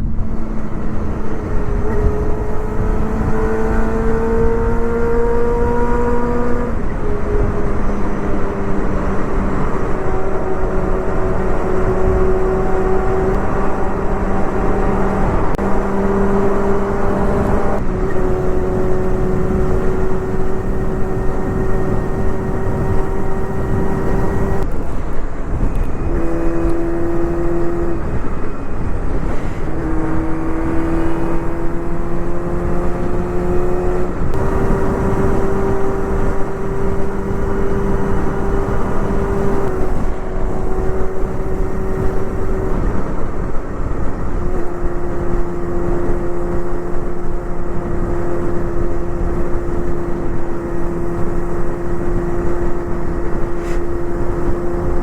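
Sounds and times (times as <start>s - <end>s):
motorcycle engine at high revs: 0.0s - 55.0s
wind rushing: 0.0s - 55.0s.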